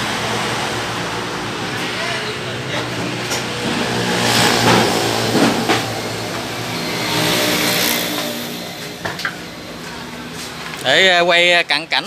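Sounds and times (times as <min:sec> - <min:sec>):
vehicle engine running: 0:00.0 - 0:10.9.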